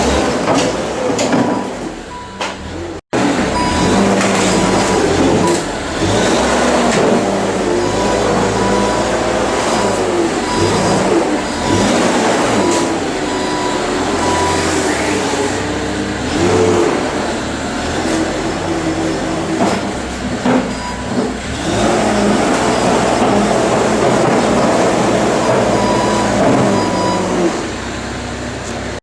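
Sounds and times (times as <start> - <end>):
heavy machine engine revving: 0.0 - 29.0.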